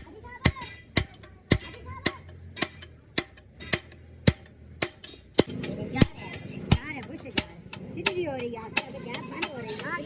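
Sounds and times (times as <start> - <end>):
hammer striking metal: 0.0 - 10.0.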